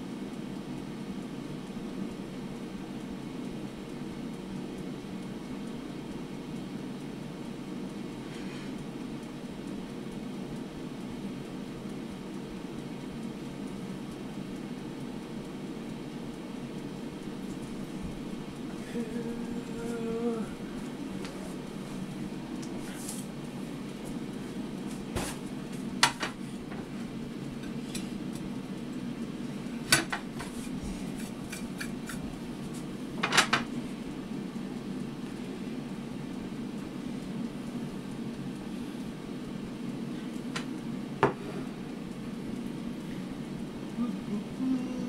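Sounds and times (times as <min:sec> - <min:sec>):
air fryer fan hum: 0:00.0 - 0:45.0.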